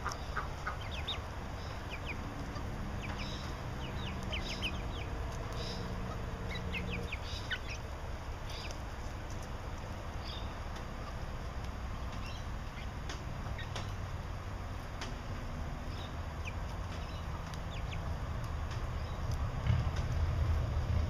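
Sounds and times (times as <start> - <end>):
chicks peeping: 0.0 - 19.4
low steady hum: 0.0 - 21.0.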